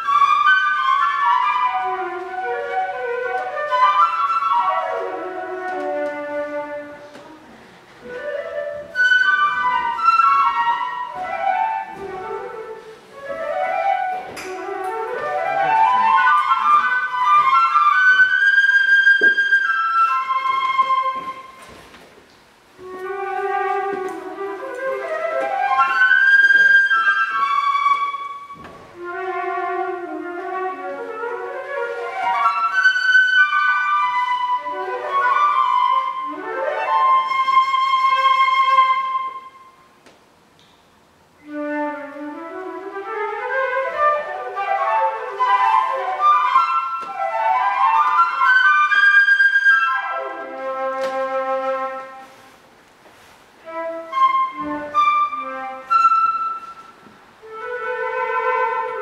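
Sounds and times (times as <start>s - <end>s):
flute playing classical passage: 0.0s - 21.9s, 22.8s - 40.0s, 41.3s - 52.6s, 53.2s - 59.0s
piano accompaniment: 0.0s - 22.0s, 22.6s - 39.8s, 41.3s - 52.5s.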